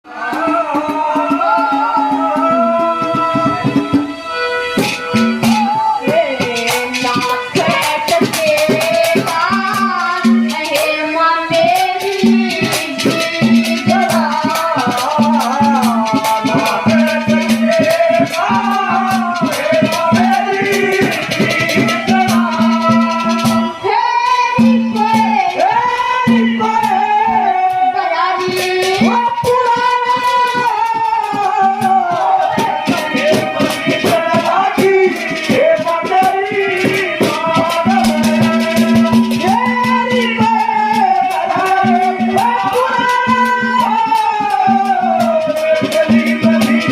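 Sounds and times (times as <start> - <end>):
fast rattling folk percussion: 0.0 - 46.9
boy singing folk song: 0.1 - 46.9.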